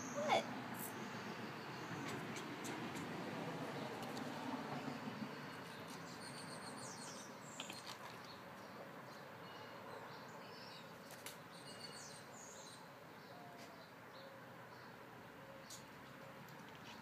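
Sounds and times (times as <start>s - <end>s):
bird song: 0.0s - 17.0s
outdoor background hiss: 0.0s - 17.0s.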